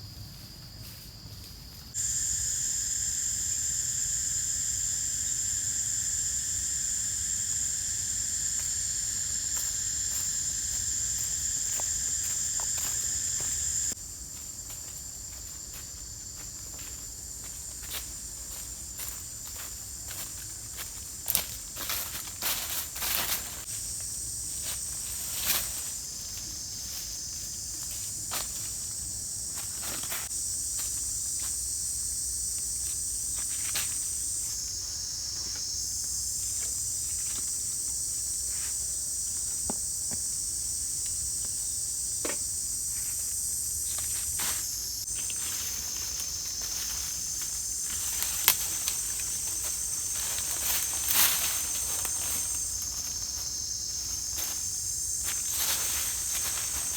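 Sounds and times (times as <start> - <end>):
chorus of forest insects: 0.0 - 56.9.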